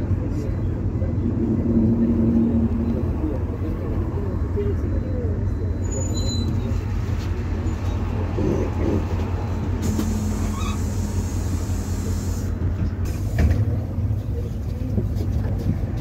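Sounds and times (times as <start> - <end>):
bus engine drone: 0.0 - 16.0
road noise: 0.0 - 16.0.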